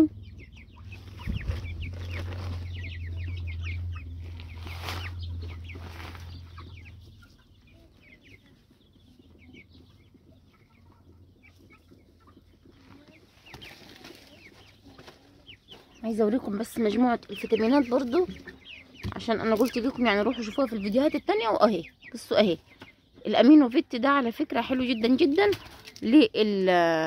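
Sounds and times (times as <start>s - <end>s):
chicks clucking and cheeping: 0.0s - 27.0s.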